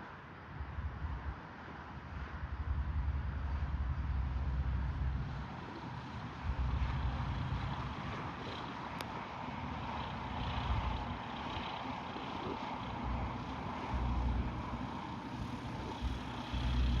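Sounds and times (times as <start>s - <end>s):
light aircraft engine: 0.0s - 17.0s.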